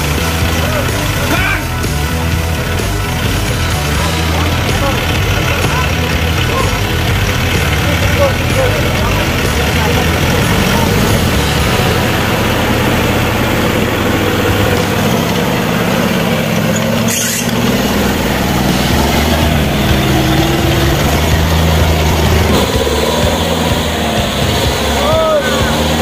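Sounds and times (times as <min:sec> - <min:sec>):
jeep engine revving: 0:00.0 - 0:26.0.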